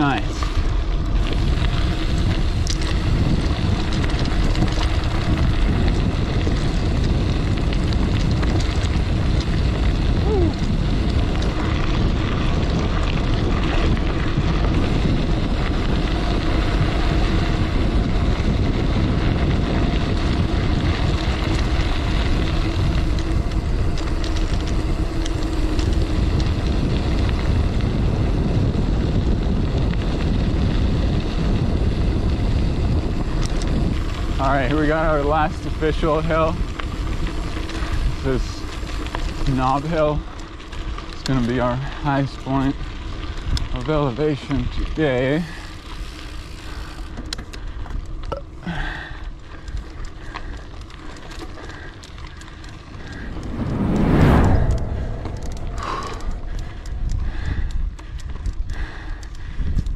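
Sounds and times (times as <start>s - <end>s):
wind on microphone: 0.0s - 42.0s, 49.6s - 59.9s
bike tyres rolling on gravel: 0.0s - 59.9s.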